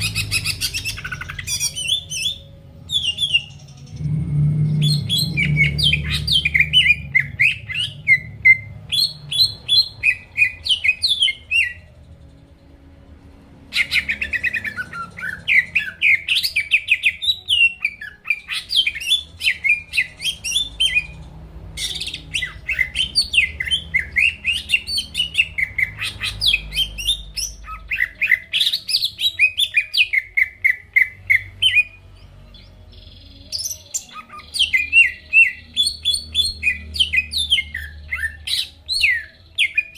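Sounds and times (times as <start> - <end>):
bird singing chattering song: 0.0 - 12.2, 13.7 - 39.9.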